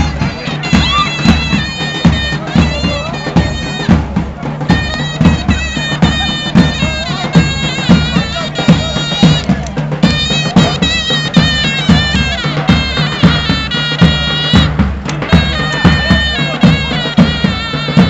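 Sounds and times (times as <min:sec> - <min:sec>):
davul drum beats: 0:00.0 - 0:18.0
reedy zurna melody: 0:00.0 - 0:18.0.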